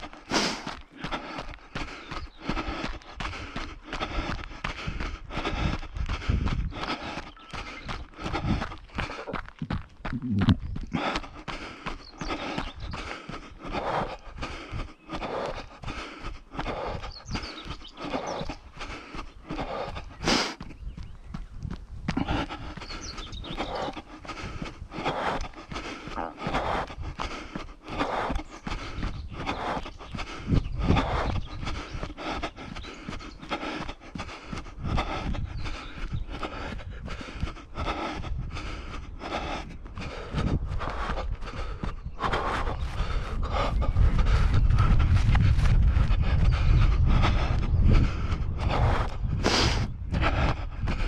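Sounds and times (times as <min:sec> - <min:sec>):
running footsteps on dirt: 0:00.0 - 0:51.0.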